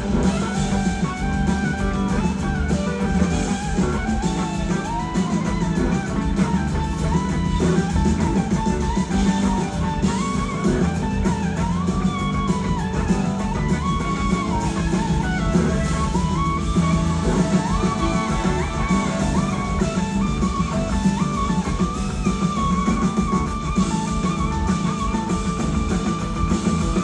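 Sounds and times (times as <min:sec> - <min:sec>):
electric slide guitar melody: 0:00.0 - 0:27.0
rock band playing: 0:00.0 - 0:27.0.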